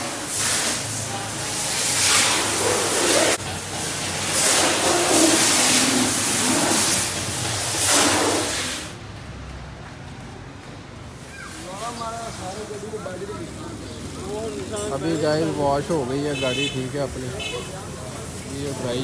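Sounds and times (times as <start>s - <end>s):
hose water spraying on car: 0.0s - 9.0s, 11.1s - 19.0s.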